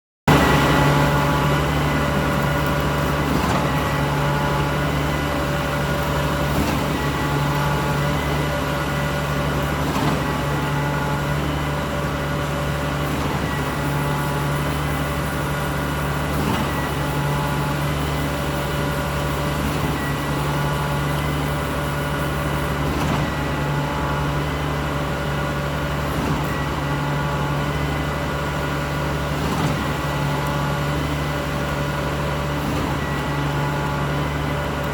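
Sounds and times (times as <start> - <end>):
large engine running steadily: 0.3 - 34.9.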